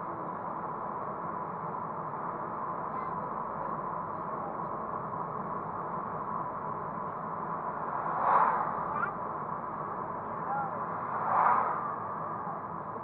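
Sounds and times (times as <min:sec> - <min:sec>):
car cabin tyre and engine noise: 0:00.0 - 0:13.0.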